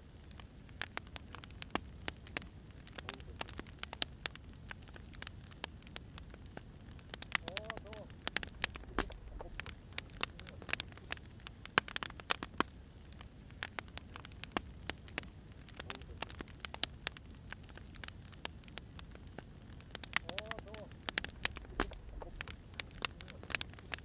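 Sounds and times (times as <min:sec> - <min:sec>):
firewood snapping and popping: 0:00.0 - 0:24.0
low fire hiss: 0:00.0 - 0:24.0.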